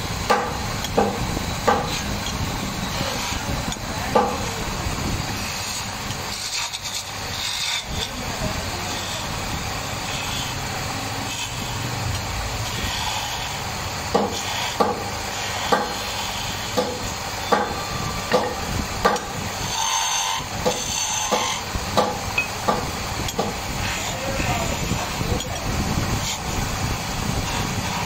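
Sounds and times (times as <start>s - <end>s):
chisel scraping spinning wood: 0.0s - 28.0s
wood lathe running: 0.0s - 28.0s.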